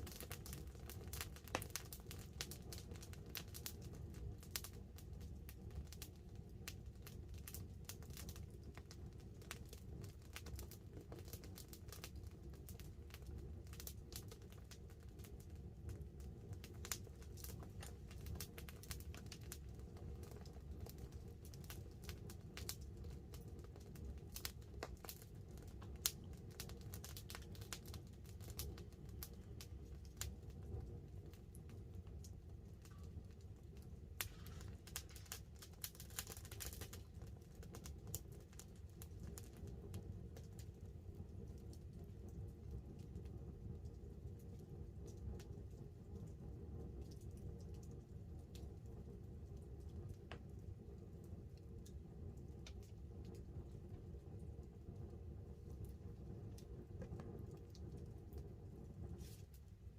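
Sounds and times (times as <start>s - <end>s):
campfire crackling and popping: 0.0s - 59.9s
rain pattering on tarp: 0.0s - 59.9s.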